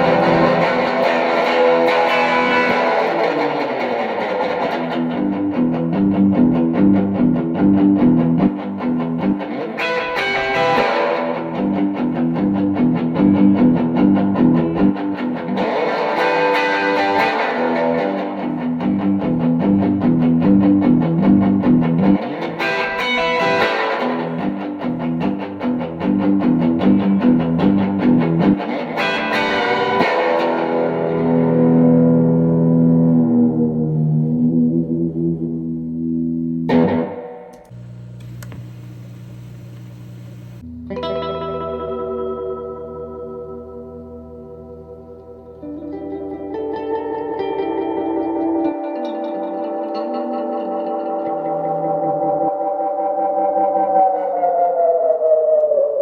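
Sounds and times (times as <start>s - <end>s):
electric guitar with tape delay: 0.0s - 56.0s.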